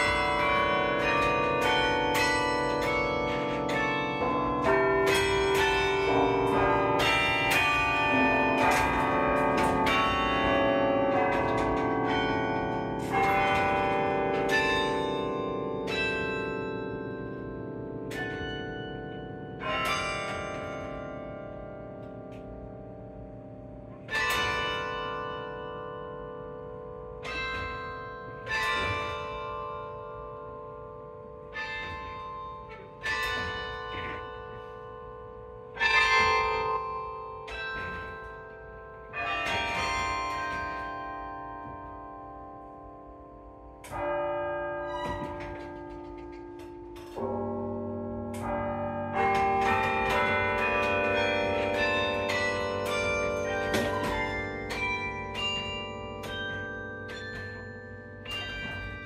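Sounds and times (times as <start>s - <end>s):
carillon bells ringing: 0.0s - 22.5s, 24.0s - 59.0s.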